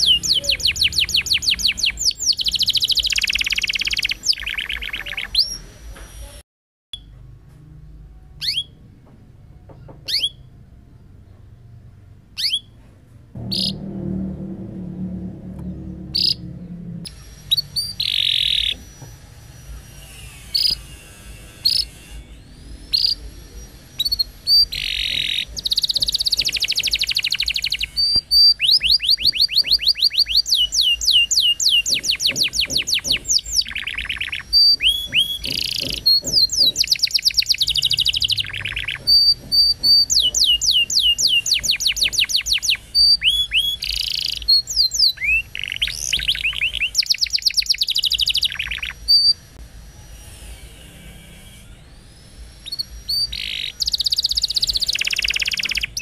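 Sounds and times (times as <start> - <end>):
canary singing: 0.0 - 6.4, 8.2 - 8.9, 9.5 - 11.4, 12.3 - 12.8, 13.4 - 56.0.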